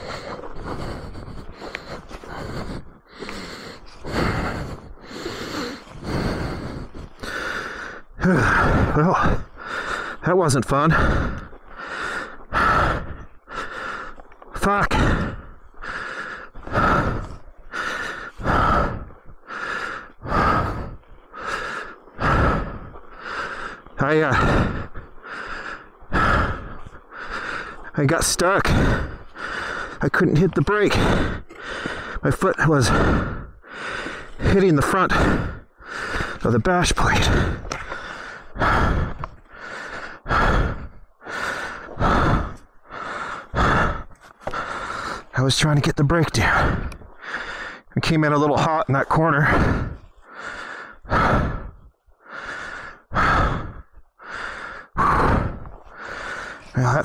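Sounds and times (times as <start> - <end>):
person breathing hard: 0.0 - 57.0.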